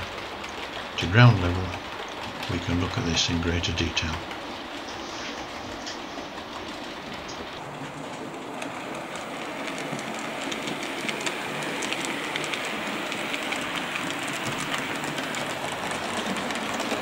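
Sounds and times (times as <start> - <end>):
model train whirring rattle: 0.0 - 17.0
wheels clicking over rail joints: 0.0 - 17.0.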